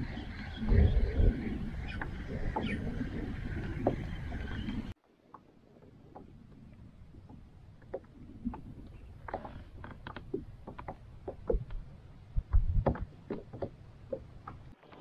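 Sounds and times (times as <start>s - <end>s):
wind rumble on microphone: 0.0s - 5.0s, 5.6s - 14.8s
water lapping against kayak hull: 0.0s - 14.8s.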